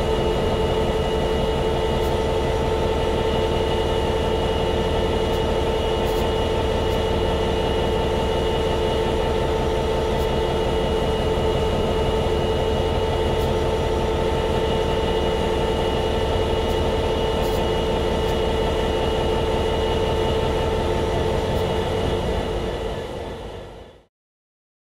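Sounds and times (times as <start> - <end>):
diesel locomotive idling: 0.0 - 24.1.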